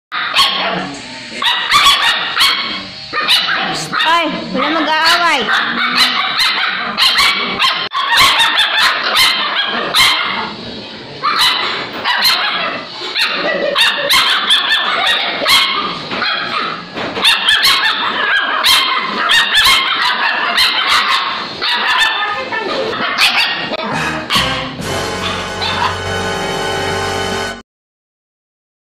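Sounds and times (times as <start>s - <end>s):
puppies calling: 0.2s - 26.4s.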